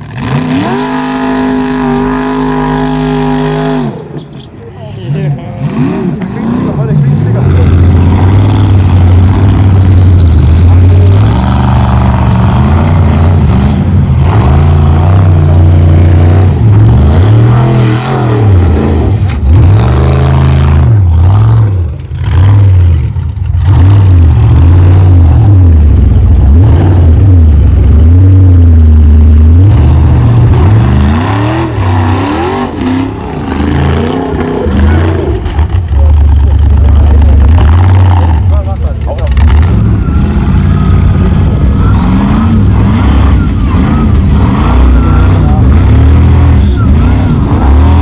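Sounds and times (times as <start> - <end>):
race truck engine revving: 0.0 - 48.0.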